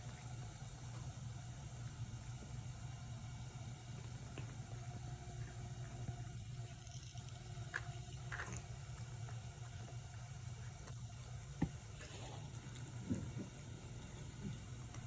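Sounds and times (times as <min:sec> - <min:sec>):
cats chewing and lapping: 0:00.0 - 0:15.0
steady low hum: 0:00.0 - 0:15.0.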